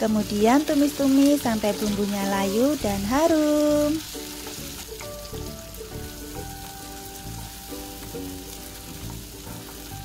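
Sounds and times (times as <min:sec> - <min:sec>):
light background music: 0:00.0 - 0:10.0
vegetables sizzling in a wok: 0:00.0 - 0:10.0.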